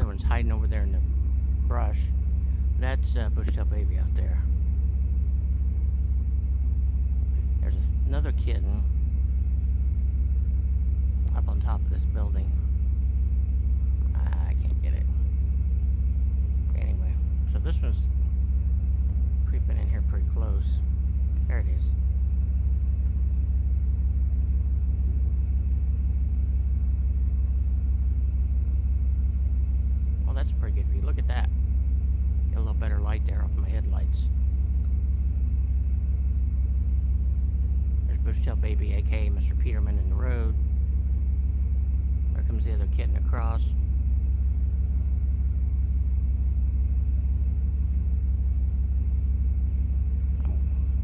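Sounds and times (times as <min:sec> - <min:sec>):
vehicle engine idling: 0:00.0 - 0:51.0.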